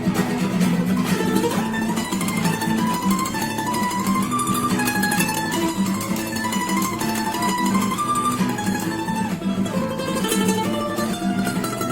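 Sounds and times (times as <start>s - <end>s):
plucked-string tune: 0.0s - 11.9s.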